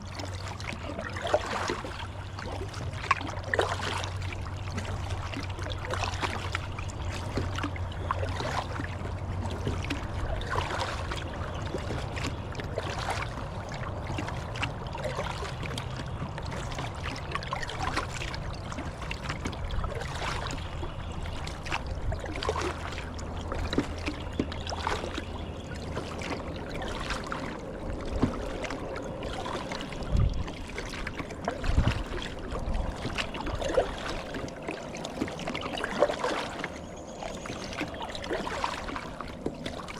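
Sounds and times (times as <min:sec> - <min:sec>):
paddle dipping in water: 0:00.0 - 0:39.9
water splashing along hull: 0:00.0 - 0:39.9.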